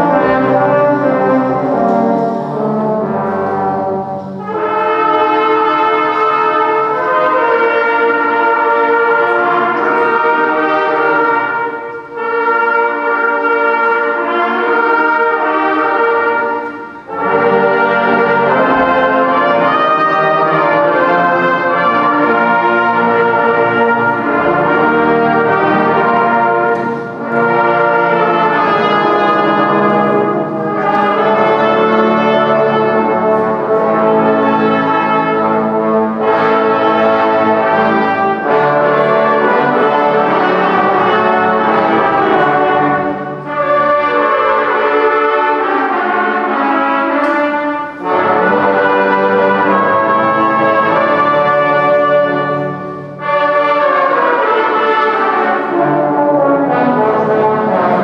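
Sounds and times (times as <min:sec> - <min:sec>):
wind band playing brass chords: 0:00.0 - 0:58.0.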